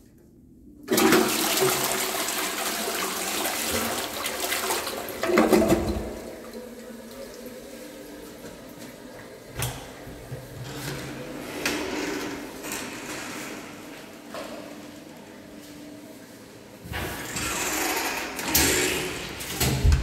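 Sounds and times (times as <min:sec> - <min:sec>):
toilet flushing: 0:00.8 - 0:14.0, 0:16.9 - 0:20.0.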